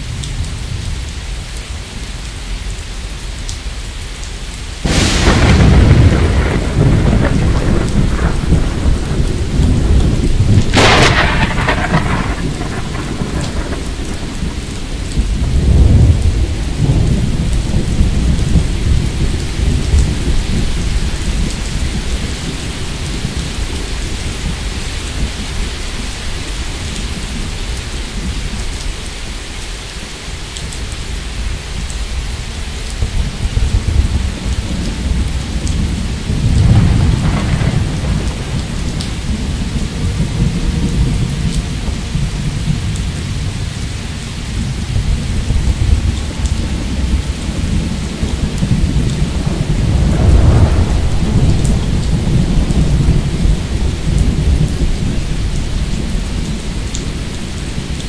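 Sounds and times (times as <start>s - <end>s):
rain hissing: 0.0s - 58.0s
thunder rumbling: 4.8s - 29.0s, 31.4s - 58.0s.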